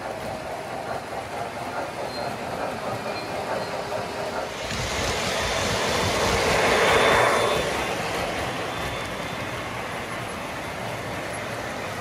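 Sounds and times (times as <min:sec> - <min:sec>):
heavier model train rumble: 0:00.0 - 0:12.0
model train wheels clattering: 0:00.0 - 0:12.0.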